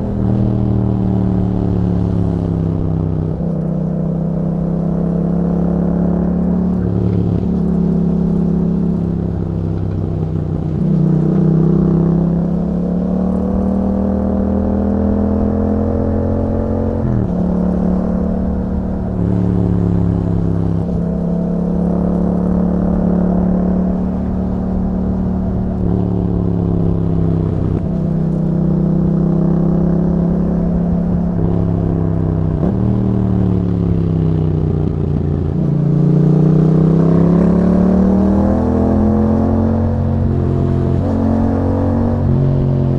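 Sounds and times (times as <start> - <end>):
motorcycle engine revving under load: 0.0 - 42.9.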